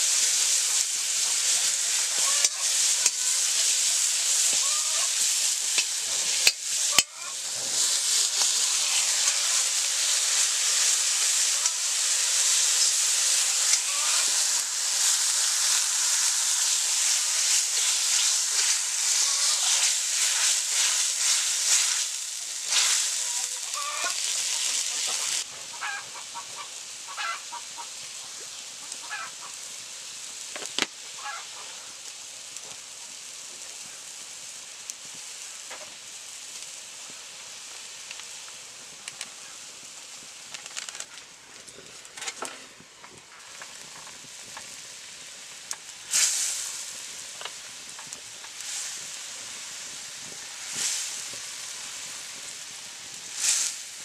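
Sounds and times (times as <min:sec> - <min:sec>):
gravy sizzling in a metal wok: 0:00.0 - 0:54.0.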